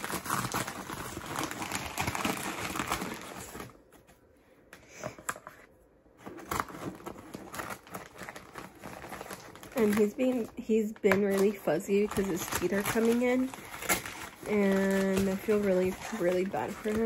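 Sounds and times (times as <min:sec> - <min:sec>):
packaging crinkling: 0:00.0 - 0:04.1, 0:06.2 - 0:17.0.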